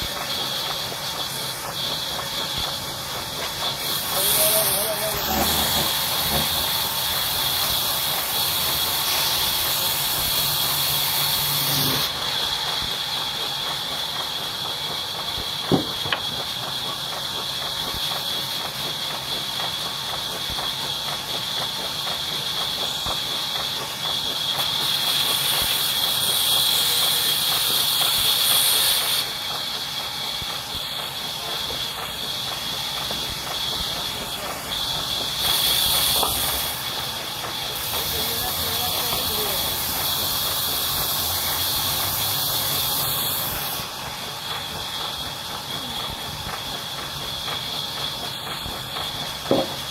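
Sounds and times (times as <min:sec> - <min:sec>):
saw machine cutting wood: 0:00.0 - 0:16.9, 0:21.0 - 0:49.9.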